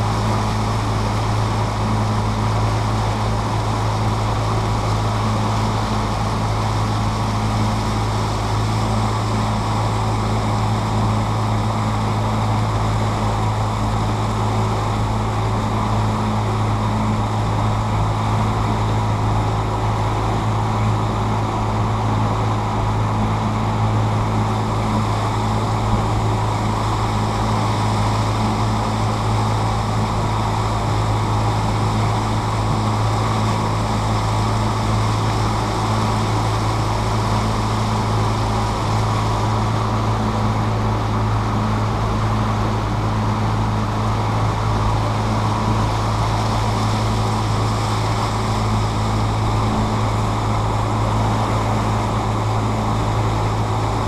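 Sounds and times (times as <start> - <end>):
boat motor droning: 0.0 - 54.0.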